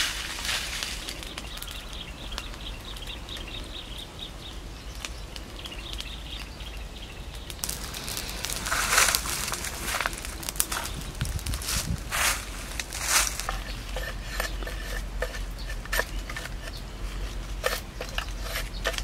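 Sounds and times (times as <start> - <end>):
rush of flames: 0.0 - 3.7, 7.2 - 19.0
dry leaves crackling in fire: 0.0 - 19.0.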